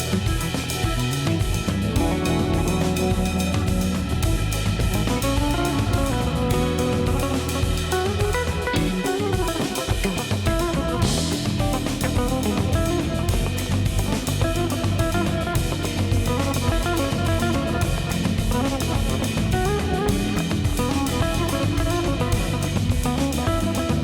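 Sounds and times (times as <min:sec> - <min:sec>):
band music with guitar and drums: 0:00.0 - 0:24.0.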